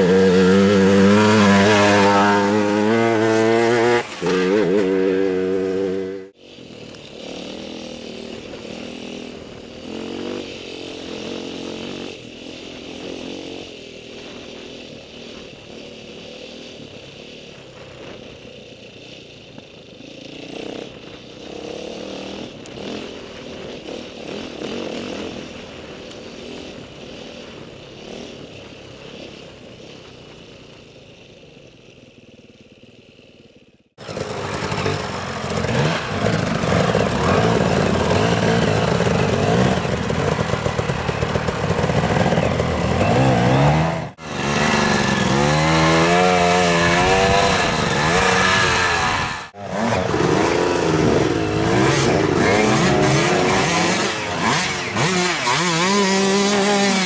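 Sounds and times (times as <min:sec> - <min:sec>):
dirt bike engine revving hard: 0:00.0 - 0:17.4, 0:20.0 - 0:29.2, 0:34.0 - 0:57.0
motorcycle engine running: 0:00.0 - 0:57.0.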